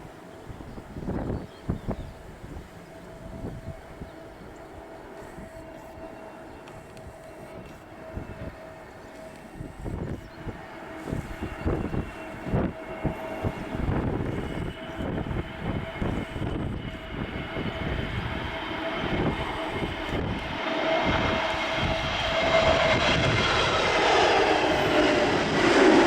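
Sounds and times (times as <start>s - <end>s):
wind buffeting microphone: 0.0s - 26.0s
jet engines whining: 2.1s - 26.0s.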